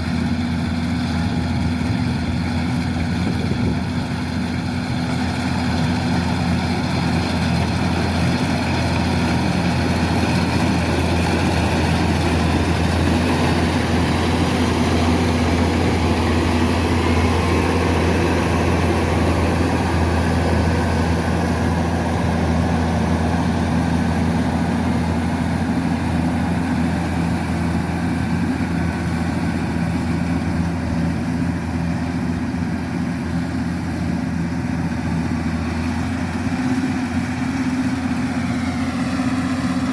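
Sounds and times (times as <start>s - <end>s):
diesel engine humming: 0.0s - 39.9s
harvester machinery noise: 0.0s - 39.9s.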